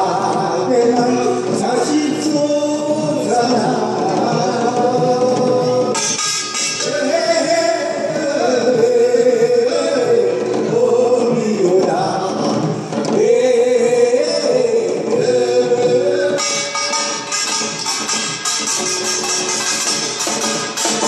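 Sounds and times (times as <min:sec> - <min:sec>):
sparse percussion: 0:00.0 - 0:13.4, 0:16.3 - 0:21.0
man singing folk song amplified: 0:00.0 - 0:21.0.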